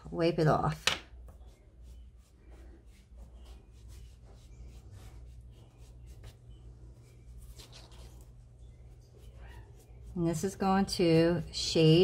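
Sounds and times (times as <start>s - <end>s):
towel rubbing over metal pendant: 1.3s - 12.0s.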